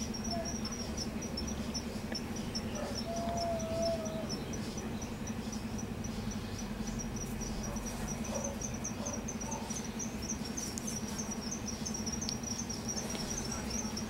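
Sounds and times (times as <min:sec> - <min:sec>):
cricket chirping: 0:00.0 - 0:14.0
low steady hum: 0:00.0 - 0:14.0.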